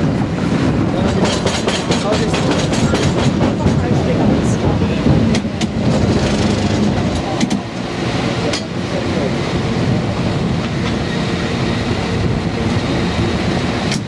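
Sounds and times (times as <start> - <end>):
cable car rumbling on track: 0.0 - 14.0.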